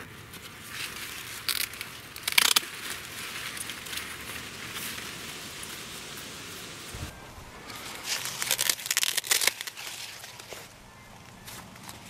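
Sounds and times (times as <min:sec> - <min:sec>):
corn husk rustling and tearing: 0:00.0 - 0:12.0.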